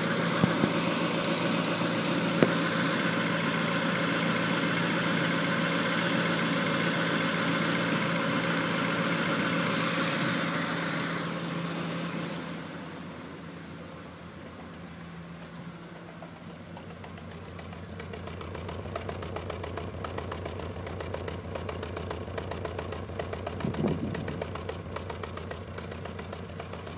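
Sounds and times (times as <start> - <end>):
car engine rough idle: 0.0 - 26.9.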